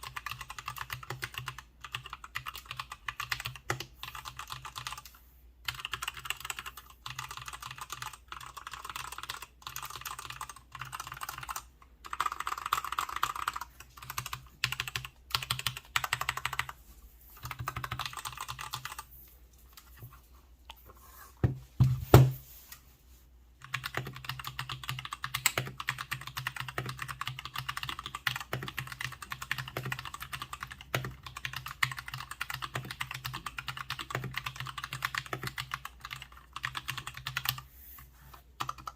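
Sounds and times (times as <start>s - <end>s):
mechanical keyboard typing: 0.0s - 16.8s, 17.4s - 19.1s, 23.6s - 37.6s, 38.6s - 38.9s.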